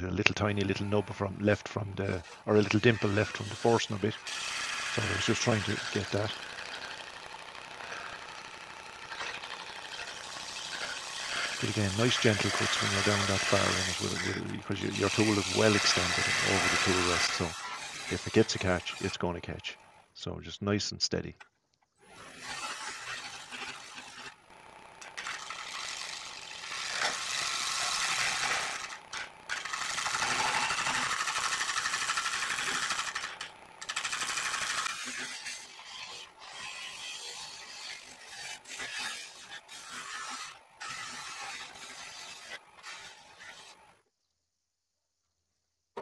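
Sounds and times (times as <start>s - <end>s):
lathe scraper scraping wood: 0.0s - 20.0s, 22.0s - 44.0s.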